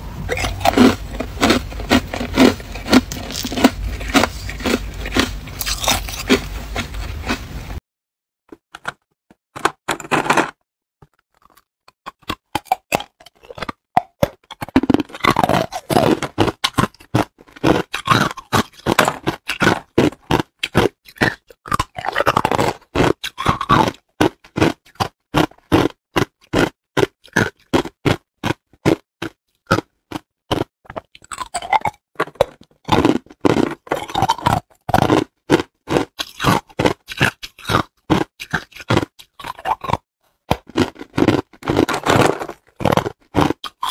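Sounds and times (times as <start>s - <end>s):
ice being chewed: 0.2s - 7.4s, 11.1s - 43.9s.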